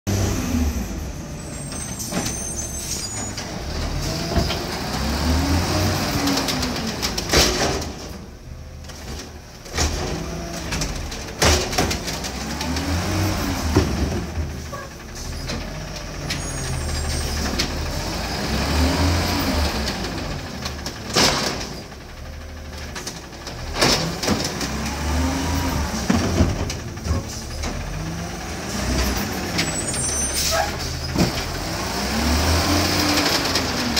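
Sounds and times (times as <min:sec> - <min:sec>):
diesel engine revving: 0:00.1 - 0:33.9
hydraulic arm and carts banging: 0:00.2 - 0:33.9.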